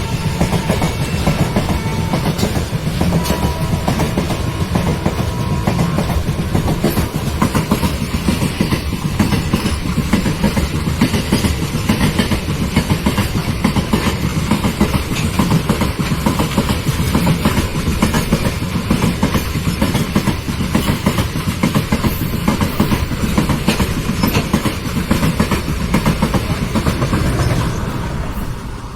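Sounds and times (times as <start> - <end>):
train rumble: 0.0 - 28.9
train wheels clattering: 0.0 - 28.9.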